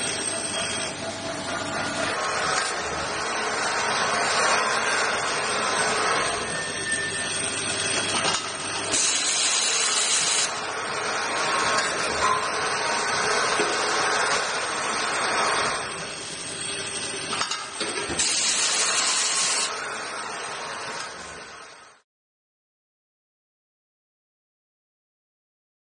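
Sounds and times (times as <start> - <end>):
drilling machine running: 0.0 - 22.0.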